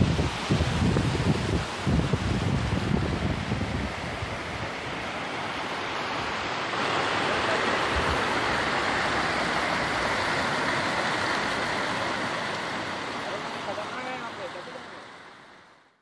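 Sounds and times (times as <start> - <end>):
river water rushing over rocks: 0.0 - 15.9.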